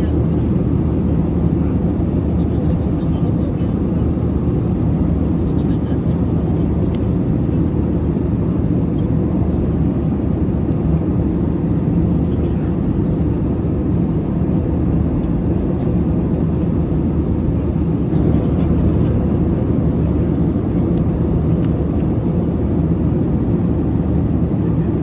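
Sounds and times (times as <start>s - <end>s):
airplane cabin roar: 0.0s - 25.0s.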